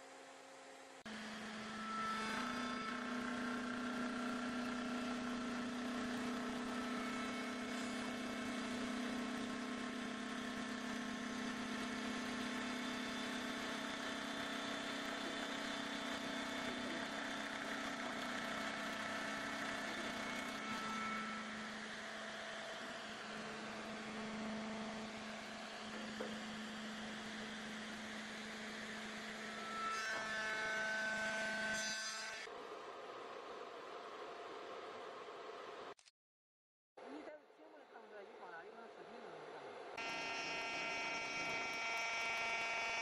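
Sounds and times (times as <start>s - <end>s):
router spindle humming and whining: 0.3s - 31.8s, 40.0s - 43.0s.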